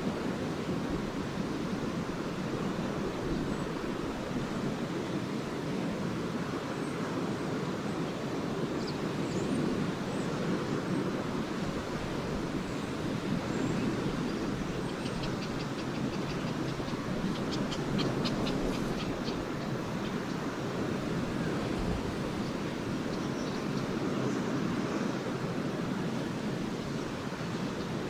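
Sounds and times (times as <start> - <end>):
waves washing onto beach: 0.0 - 28.0.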